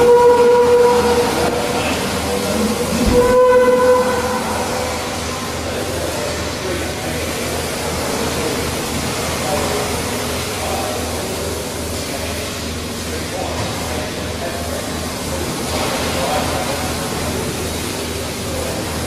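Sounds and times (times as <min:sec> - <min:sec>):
mechanical noise with rhythmic throb: 0:00.0 - 0:19.0.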